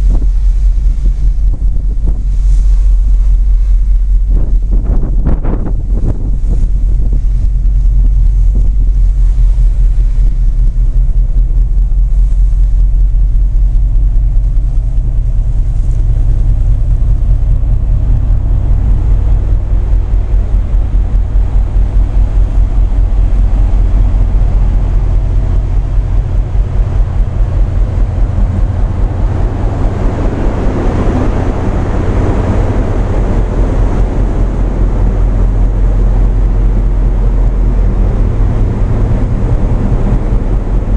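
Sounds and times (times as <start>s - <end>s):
diesel engine rumbling: 0.0s - 40.9s
rushing wind or water: 0.0s - 40.9s.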